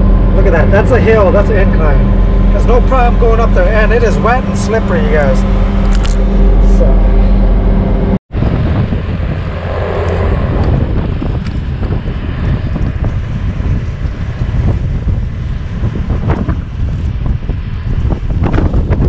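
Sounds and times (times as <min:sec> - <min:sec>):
diesel engine running: 0:00.0 - 0:19.0
wind buffeting microphone: 0:00.0 - 0:19.0.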